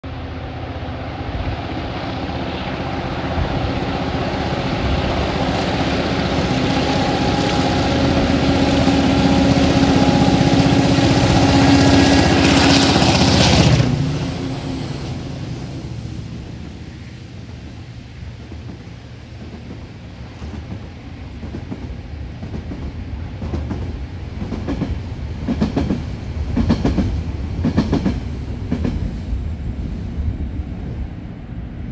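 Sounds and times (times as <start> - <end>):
locomotive engine drone: 0.0 - 31.9.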